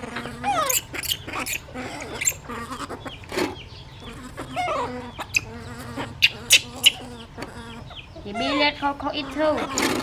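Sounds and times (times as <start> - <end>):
small animals squeaking: 0.0 - 10.0.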